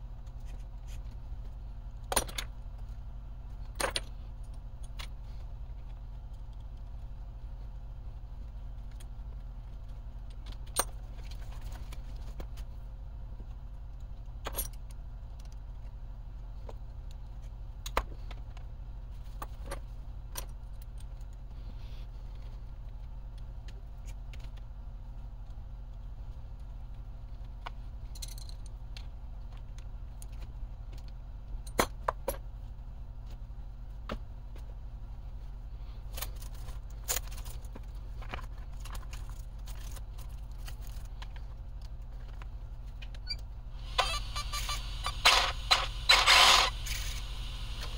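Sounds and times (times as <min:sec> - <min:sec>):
low hum: 0:00.0 - 0:47.9.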